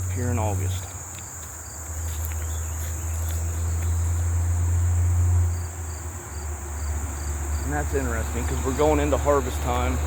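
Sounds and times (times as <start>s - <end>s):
crickets and insects chirping: 0.0s - 10.0s.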